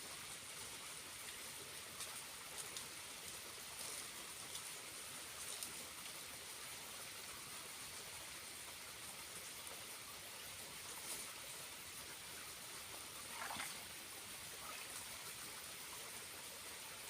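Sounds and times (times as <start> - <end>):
small waterfall splashing: 0.0 - 17.0.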